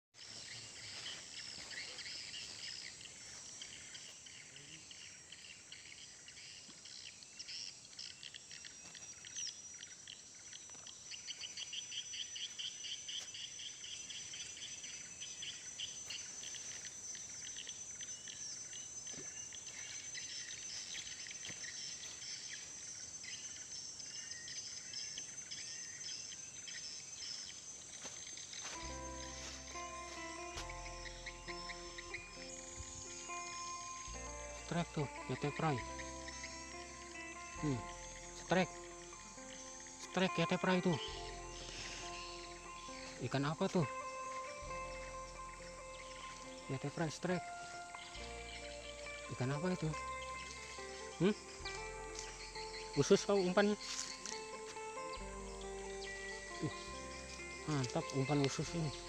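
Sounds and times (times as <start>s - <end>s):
birds chirping and calling: 0.2s - 59.0s
high-pitched insect drone: 0.2s - 59.0s.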